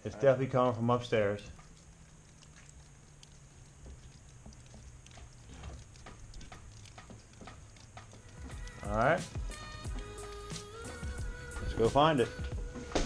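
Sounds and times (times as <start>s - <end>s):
low steady hum: 0.0s - 13.0s
water dripping: 0.0s - 13.0s.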